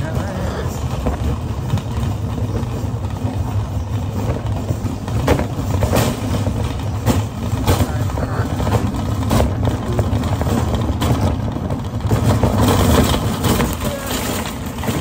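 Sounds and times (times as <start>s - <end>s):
cart rattling: 0.0s - 15.0s
shopping cart wheels rumbling: 0.0s - 15.0s.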